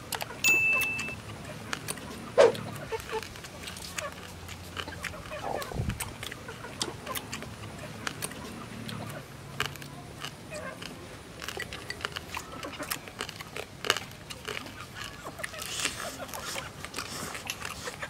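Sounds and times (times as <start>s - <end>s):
people chewing and lip smacking: 0.0s - 18.0s
meat tearing: 1.7s - 18.0s.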